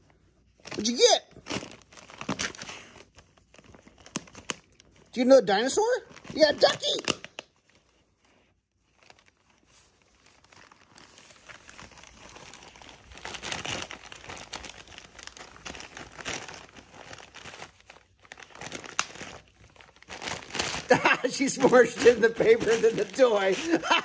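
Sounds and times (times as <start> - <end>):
wrapping paper crinkling and tearing: 0.0 - 24.0.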